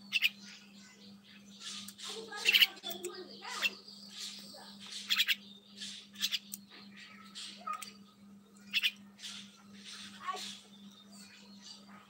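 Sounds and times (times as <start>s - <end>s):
small bird calling: 0.0s - 12.0s
steady low hum: 0.0s - 12.0s.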